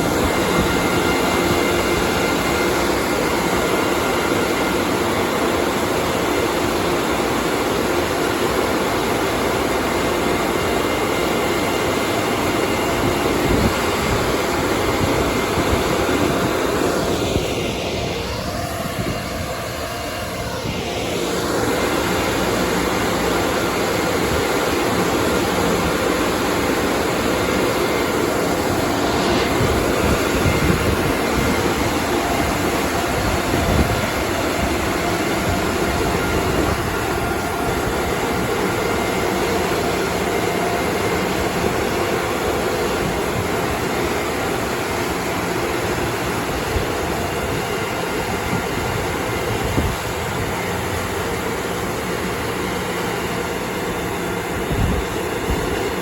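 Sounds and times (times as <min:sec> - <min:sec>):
car wash machinery running: 0:00.0 - 0:56.0.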